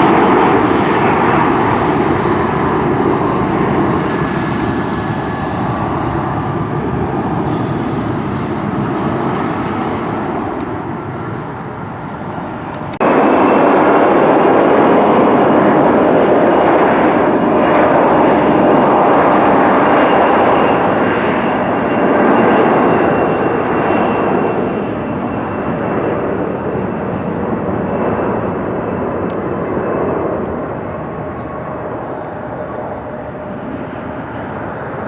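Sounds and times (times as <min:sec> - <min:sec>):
jet airliner flying low: 0:00.0 - 0:35.0.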